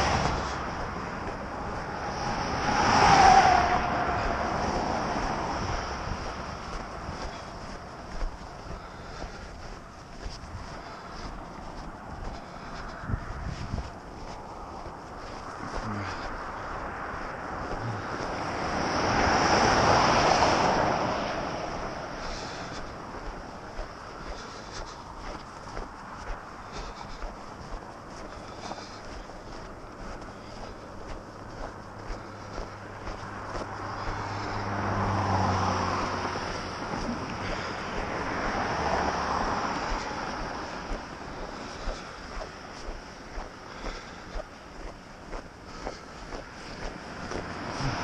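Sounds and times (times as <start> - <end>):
cars passing on snowy road: 0.0 - 48.0.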